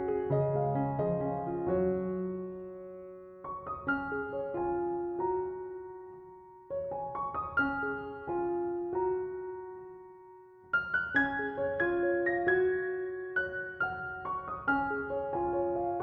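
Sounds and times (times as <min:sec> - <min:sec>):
slow gentle piano chords: 0:00.0 - 0:16.0.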